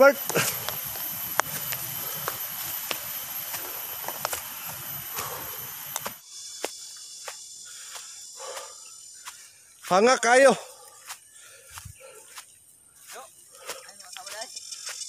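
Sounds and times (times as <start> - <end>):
insects shrilling: 0.0 - 15.0.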